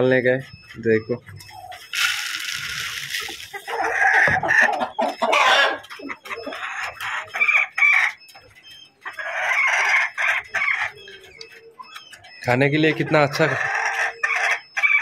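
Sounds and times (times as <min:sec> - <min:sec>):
chickens clucking and calling: 0:00.0 - 0:15.0.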